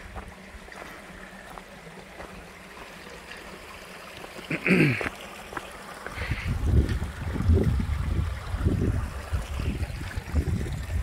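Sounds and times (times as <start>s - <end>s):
creek trickling: 0.0s - 11.0s.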